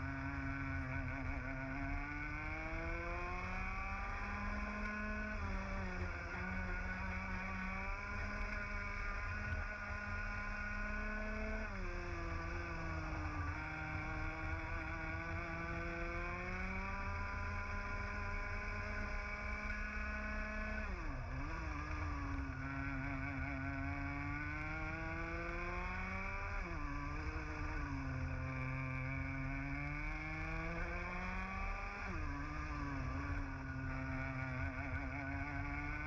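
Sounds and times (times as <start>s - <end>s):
kart engine at race pace: 0.0s - 36.0s.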